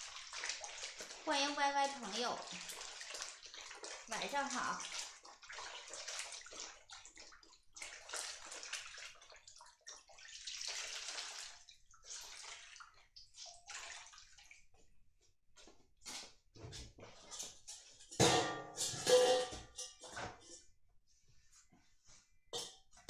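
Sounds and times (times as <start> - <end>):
water sloshing in metal basin: 0.0 - 14.9, 15.6 - 20.7.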